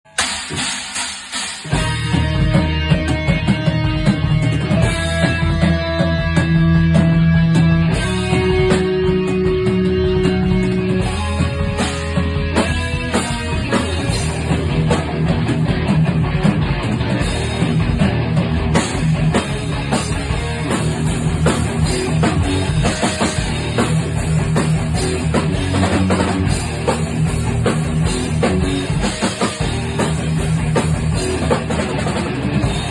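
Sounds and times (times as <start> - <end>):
bass guitar: 0.0 - 32.9
distorted electric guitar: 0.0 - 32.9
drum kit beat: 0.0 - 32.9.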